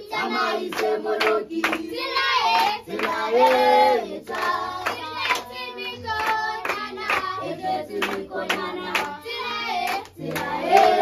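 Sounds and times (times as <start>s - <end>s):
children singing: 0.0s - 11.0s
hands clapping: 0.2s - 3.7s, 4.3s - 11.0s.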